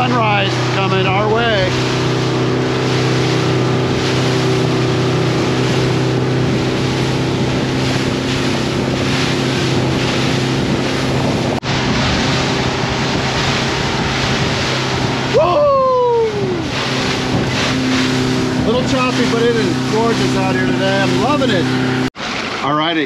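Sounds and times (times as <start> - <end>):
wind buffeting microphone: 0.0 - 22.1
motorboat engine drone: 0.0 - 22.9
water rushing from wake: 0.0 - 23.0.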